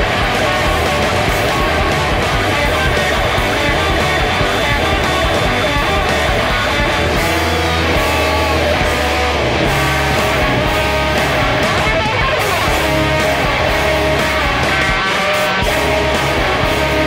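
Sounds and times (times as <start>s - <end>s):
electric guitar picking: 0.0s - 17.0s
rock band recording: 0.0s - 17.0s.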